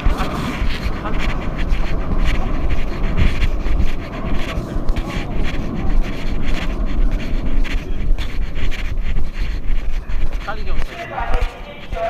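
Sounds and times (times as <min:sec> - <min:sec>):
brisk footsteps: 0:00.0 - 0:12.0
low rumble on microphone: 0:00.0 - 0:12.0.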